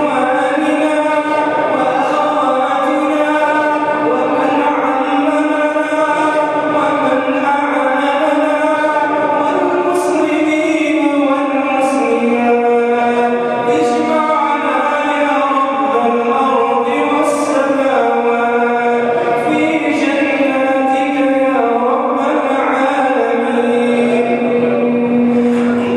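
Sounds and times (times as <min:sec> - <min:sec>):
man chanting through microphone: 0:00.0 - 0:25.9.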